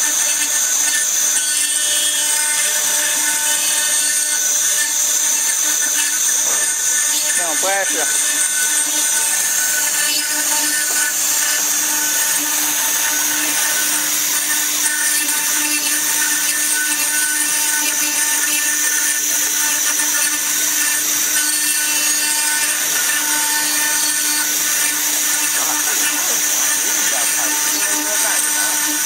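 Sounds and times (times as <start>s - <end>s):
router spindle cutting stone: 0.0s - 29.0s.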